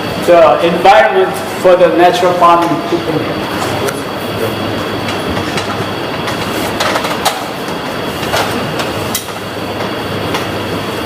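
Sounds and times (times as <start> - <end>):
steady mechanical rumble: 0.0 - 11.0.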